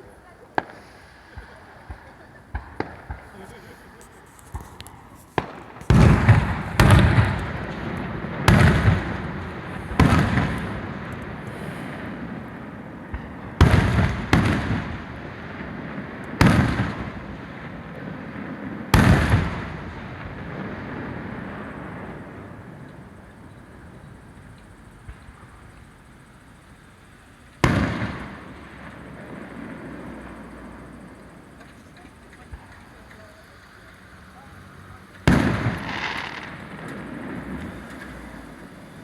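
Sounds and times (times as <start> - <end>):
fireworks booms with rolling echo: 0.0 - 39.0.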